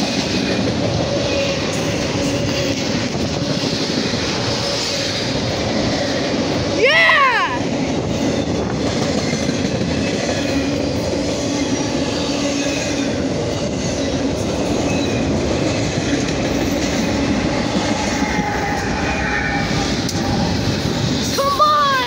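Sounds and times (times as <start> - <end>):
clickety-clack over rail joints: 0.0 - 6.8, 7.6 - 21.6
diesel locomotives passing: 0.0 - 22.0
train wheels rumbling on rail: 0.0 - 22.0.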